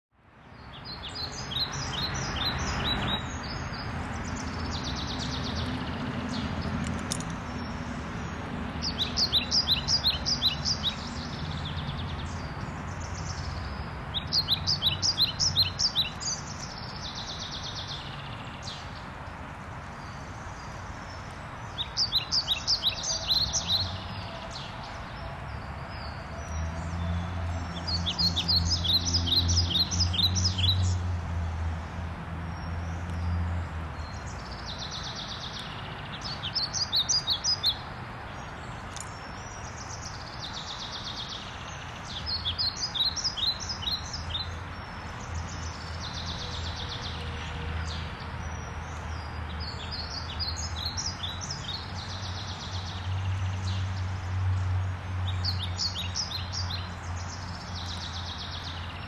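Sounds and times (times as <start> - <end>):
songbird chirping: 0.2 - 59.0.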